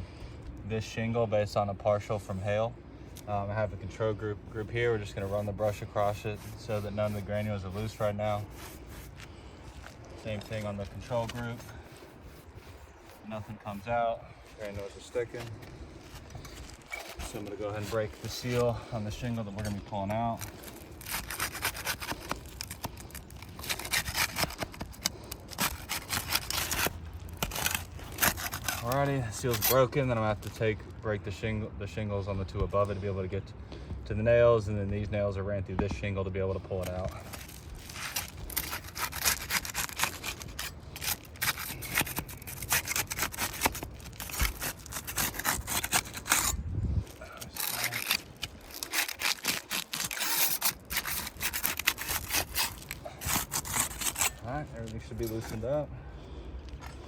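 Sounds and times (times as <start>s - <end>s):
tool scraping under shingle: 3.2s - 30.8s, 35.8s - 55.9s.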